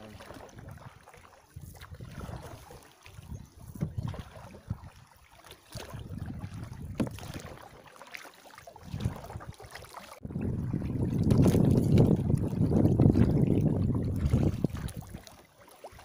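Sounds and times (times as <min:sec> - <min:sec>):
wind rumbling on microphone: 0:00.0 - 0:05.1, 0:05.8 - 0:07.6, 0:08.8 - 0:09.6, 0:10.2 - 0:15.4
paddle splashes and drips: 0:00.0 - 0:16.0.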